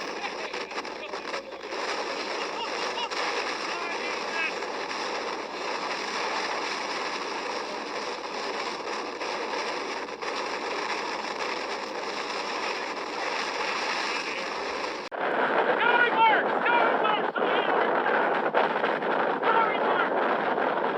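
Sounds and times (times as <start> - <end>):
rushing storm noise: 0.0 - 20.9.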